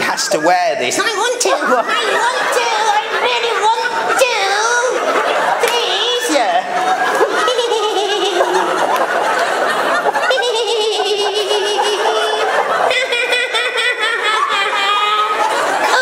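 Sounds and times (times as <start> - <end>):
audience laughing: 0.0 - 16.0.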